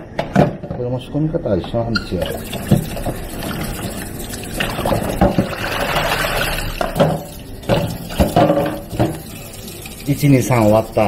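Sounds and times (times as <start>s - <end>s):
tap water running into bowl: 2.0s - 11.0s.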